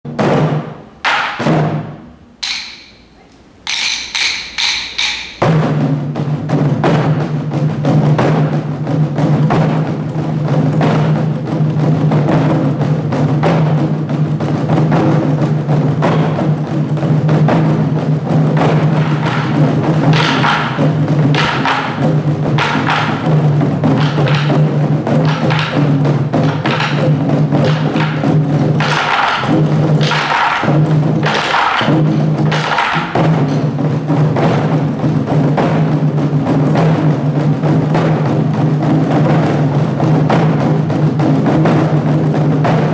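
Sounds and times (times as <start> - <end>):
barrel drums drumming: 0.0 - 42.9.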